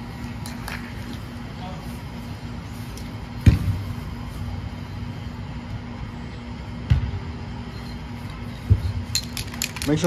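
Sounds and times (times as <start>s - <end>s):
faint hum: 0.0s - 10.0s
low outdoor rumble: 0.0s - 10.0s.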